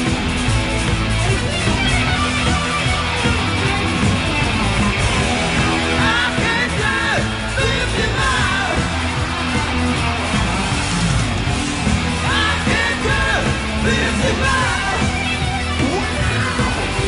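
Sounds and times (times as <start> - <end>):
hard rock music with electric guitar: 0.0 - 17.0.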